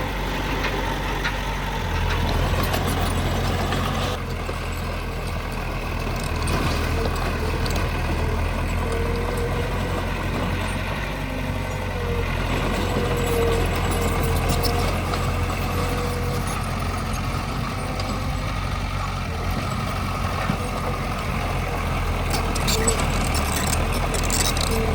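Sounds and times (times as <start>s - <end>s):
diesel machinery engine hum: 0.0s - 24.9s.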